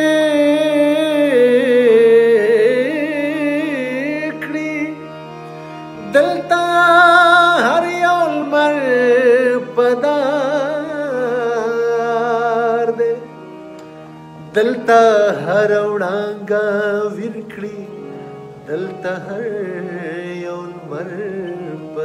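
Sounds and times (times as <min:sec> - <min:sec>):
man singing a lament: 0:00.0 - 0:05.2, 0:06.0 - 0:13.3, 0:14.6 - 0:18.0, 0:18.7 - 0:22.0.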